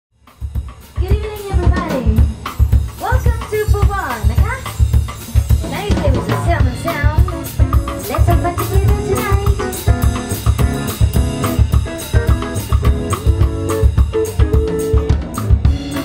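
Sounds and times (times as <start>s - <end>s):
live rock band playing: 0.2s - 16.0s.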